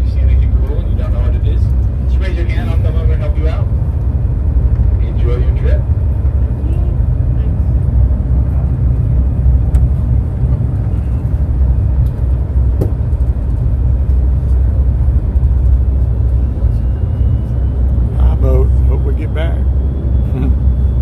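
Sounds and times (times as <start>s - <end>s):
ferry engine low rumble: 0.0s - 21.0s.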